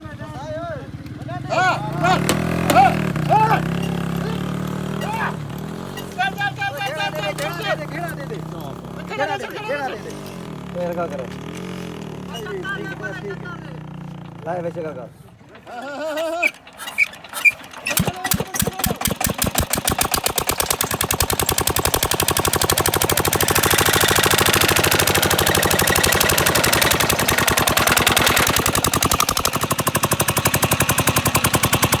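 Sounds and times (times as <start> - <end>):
diesel engine starting: 0.9 - 32.0.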